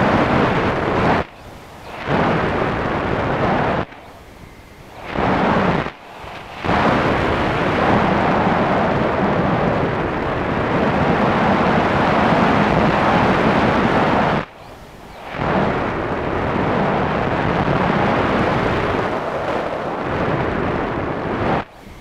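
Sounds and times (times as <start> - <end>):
rushing airflow and motor noise: 0.0 - 22.0.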